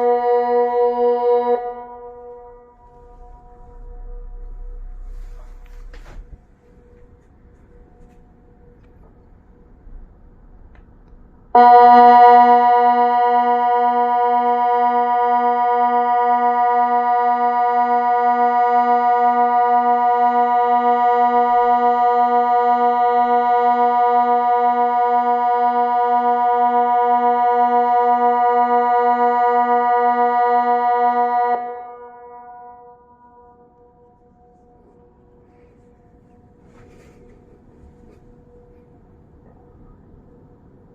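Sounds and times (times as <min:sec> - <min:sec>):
electronic siren steady chord: 0:00.0 - 0:08.9, 0:11.5 - 0:40.6.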